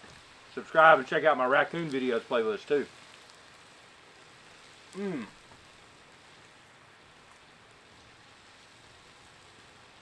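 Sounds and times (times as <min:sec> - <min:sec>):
steak sizzling on a griddle: 0:00.0 - 0:10.0
tiny crackles: 0:00.0 - 0:10.0.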